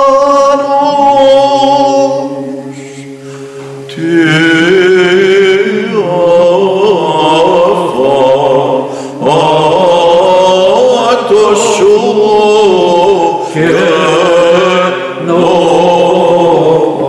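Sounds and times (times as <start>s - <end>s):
man chanting ornamented melody: 0.0s - 17.0s
men singing low drone: 0.0s - 17.0s.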